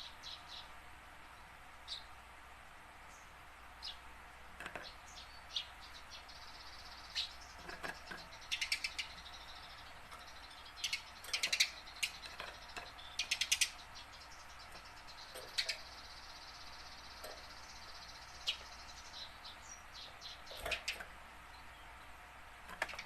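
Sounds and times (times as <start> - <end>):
sparrow chirping: 0.0 - 0.8, 1.4 - 2.2, 3.1 - 23.0.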